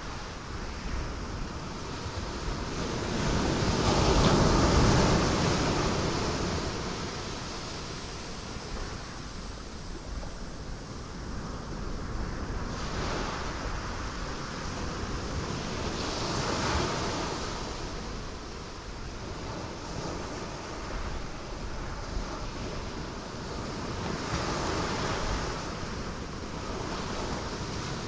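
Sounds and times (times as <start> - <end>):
ocean waves breaking on rocks: 0.0 - 9.6, 10.2 - 28.0.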